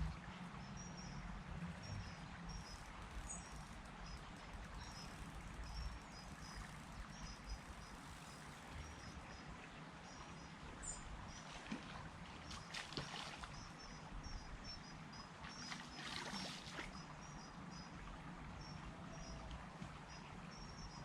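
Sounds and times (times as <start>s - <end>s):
water splashing at river's edge: 0.0s - 21.0s.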